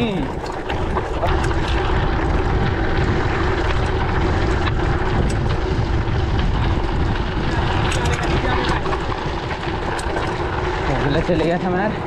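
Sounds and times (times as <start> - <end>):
bike clicks and rattles: 0.0 - 12.0
bike tyre rumble: 0.0 - 12.0
wind on microphone: 0.0 - 12.0.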